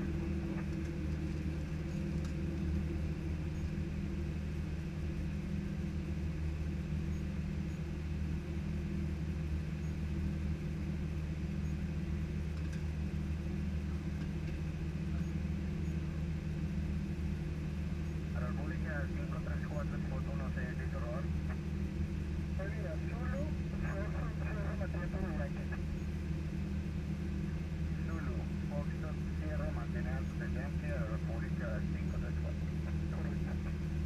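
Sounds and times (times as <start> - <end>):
cockpit fans running: 0.0 - 34.0
jet engines idling: 0.0 - 34.0.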